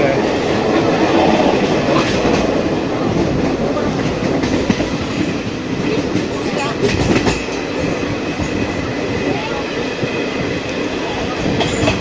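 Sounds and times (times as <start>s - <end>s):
train wheel and wind rush: 0.0s - 12.0s
train wheels clicking on rails: 0.0s - 12.0s.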